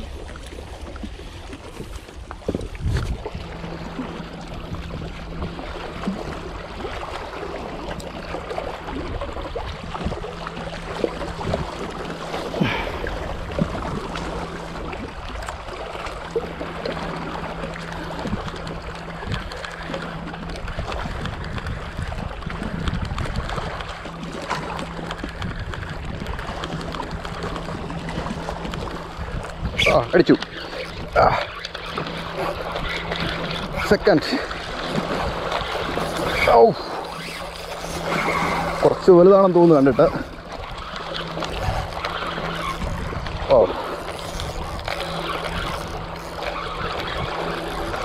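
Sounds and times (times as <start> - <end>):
steady low hum: 0.0 - 48.0
waves splashing against rocks: 0.0 - 48.0.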